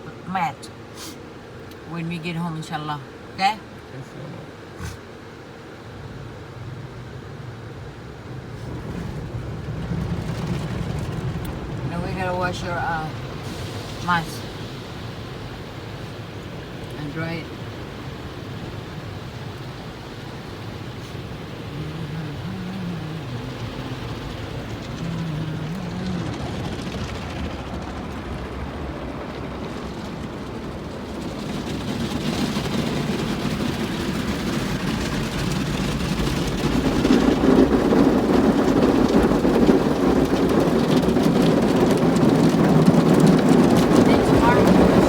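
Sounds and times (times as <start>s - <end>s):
car wash water spraying: 0.3s - 45.0s.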